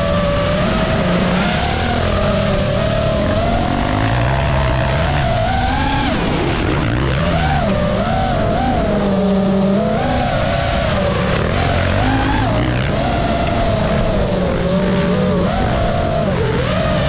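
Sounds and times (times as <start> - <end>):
dirt bike engine revving: 0.0 - 17.0
drone propellers whining: 0.0 - 17.0.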